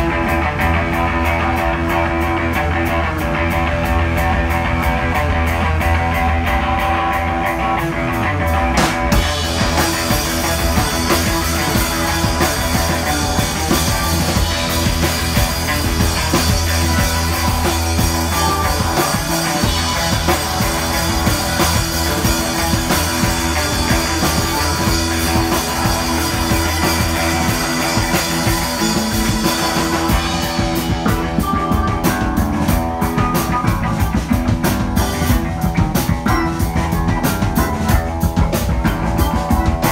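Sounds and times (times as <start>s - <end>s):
drums and cymbals: 0.0s - 39.9s
rock band playing: 0.0s - 39.9s.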